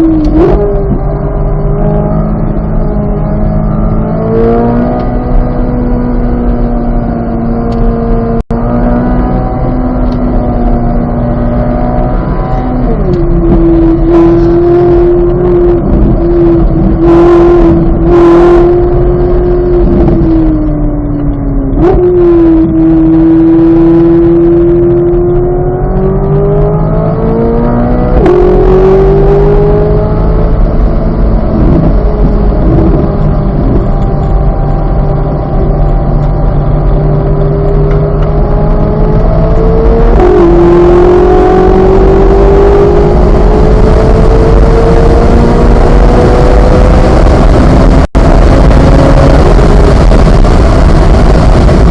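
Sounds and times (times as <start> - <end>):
sports car engine revving: 0.0 - 51.9
wind and road noise: 0.0 - 51.9.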